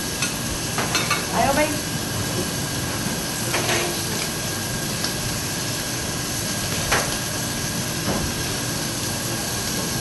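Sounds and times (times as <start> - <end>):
shrimp sizzling in oil: 0.0 - 10.0.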